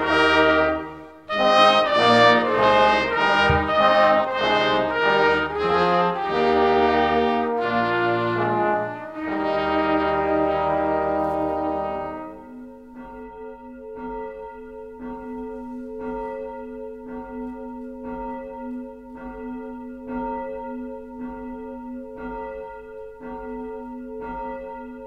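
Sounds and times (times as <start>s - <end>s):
church bell tolling: 0.0s - 9.5s, 10.4s - 25.0s.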